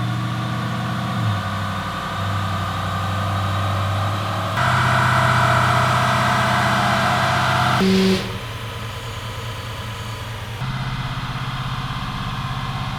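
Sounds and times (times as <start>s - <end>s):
pickup truck engine running: 0.0s - 12.9s.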